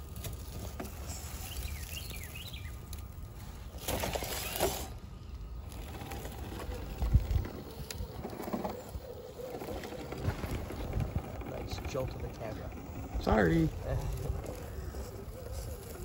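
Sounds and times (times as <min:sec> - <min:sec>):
dry leaves rustling: 0:00.0 - 0:11.1, 0:12.8 - 0:16.0
songbirds chirping: 0:00.0 - 0:16.0.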